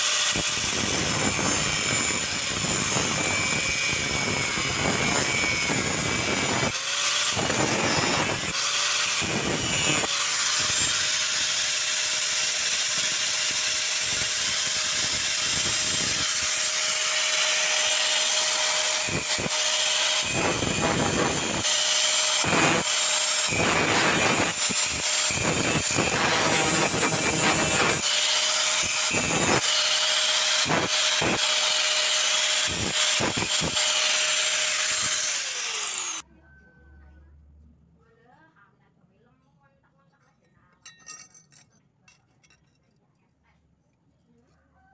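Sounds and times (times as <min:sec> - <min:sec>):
angle grinder grinding steel: 0:00.0 - 0:36.3.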